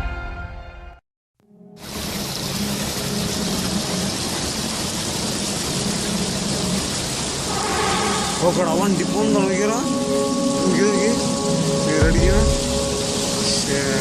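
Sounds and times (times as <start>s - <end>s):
rushing water: 1.7s - 14.0s.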